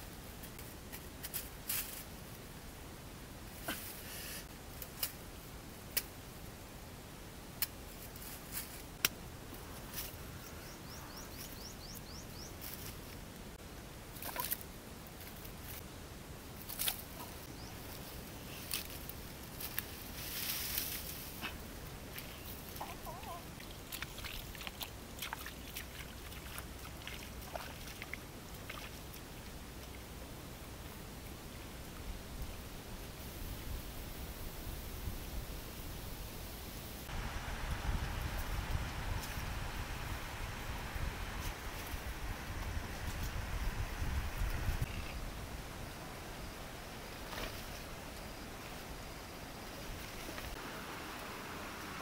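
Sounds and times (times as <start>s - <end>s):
leaves rustling: 0.0s - 2.8s, 3.4s - 6.8s, 7.5s - 52.0s.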